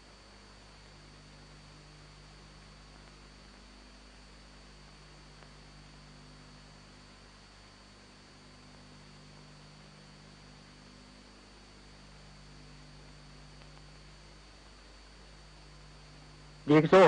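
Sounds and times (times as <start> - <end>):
faint steady hum with hiss: 0.0 - 17.0.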